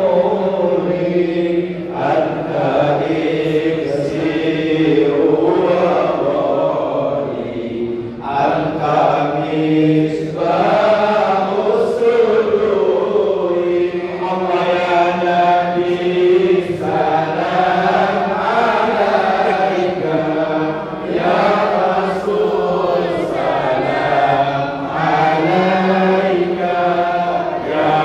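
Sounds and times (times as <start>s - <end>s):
men chanting in unison: 0.0s - 28.0s.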